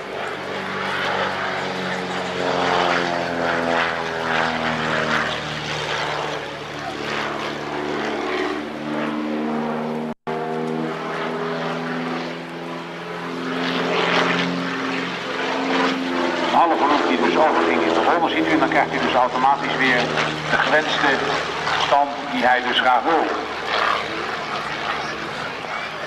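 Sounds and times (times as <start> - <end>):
propeller plane engine: 0.0 - 26.0.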